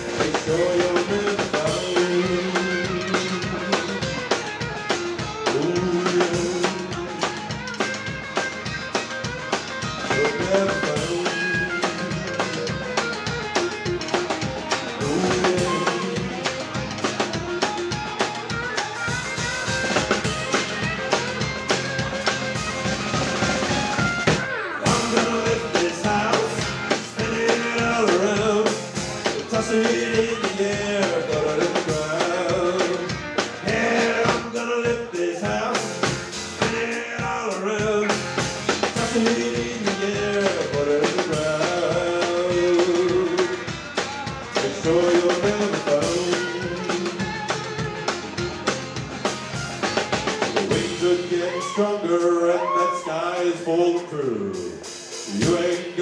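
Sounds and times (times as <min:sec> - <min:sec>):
drum kit beat: 0:00.0 - 0:56.0
live country band playing: 0:00.0 - 0:56.0.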